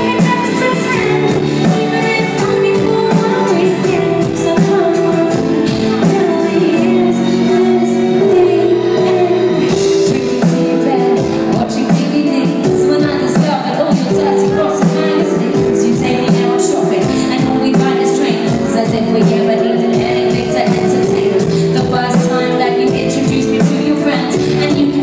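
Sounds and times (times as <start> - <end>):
woman singing with band: 0.0 - 25.0.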